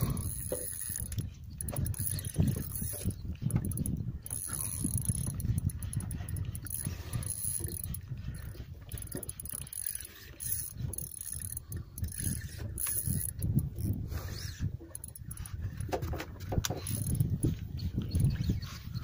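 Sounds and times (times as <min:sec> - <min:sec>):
fishing reel clicking and whirring: 0:00.0 - 0:19.0
wind and water rumble: 0:00.0 - 0:19.0.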